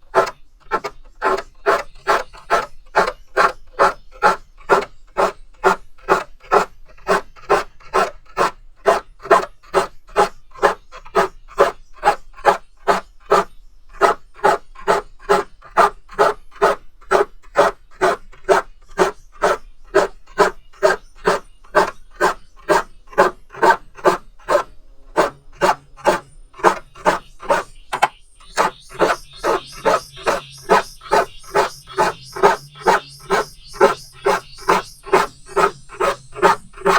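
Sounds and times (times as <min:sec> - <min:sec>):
file rasping on saw teeth: 0:00.0 - 0:36.9.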